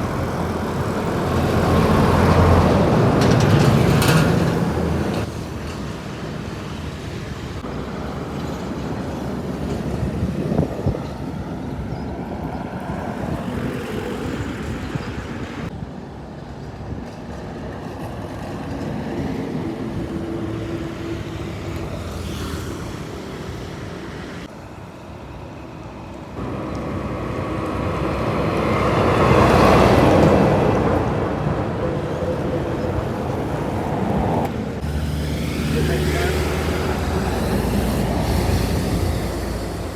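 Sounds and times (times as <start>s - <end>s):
heavy trucks driving by: 0.0s - 15.7s, 18.9s - 39.9s.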